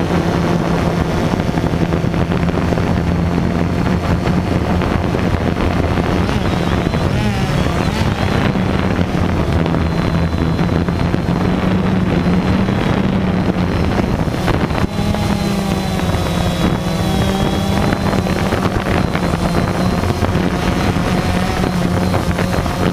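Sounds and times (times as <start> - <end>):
drone motors buzzing: 0.0 - 22.9
wind noise on microphone: 0.0 - 22.9.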